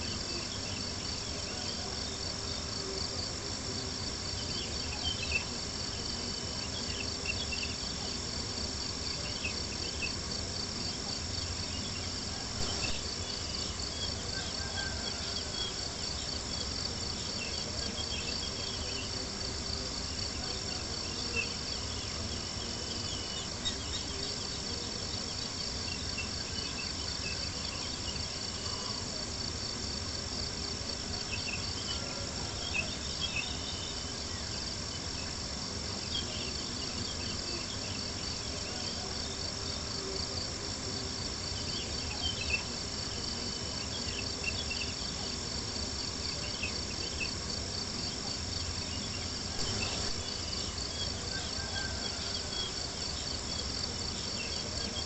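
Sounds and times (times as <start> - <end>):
night insects chirping: 0.0 - 55.0.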